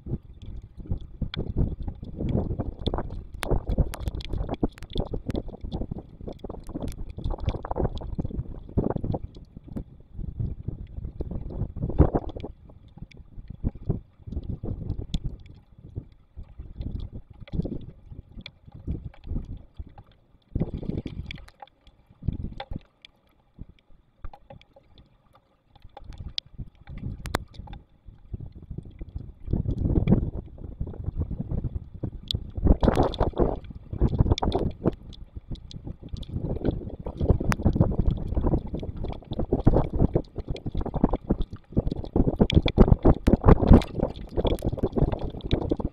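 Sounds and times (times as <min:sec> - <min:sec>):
storm wind buffeting microphone: 0:00.0 - 0:19.2, 0:28.3 - 0:45.9.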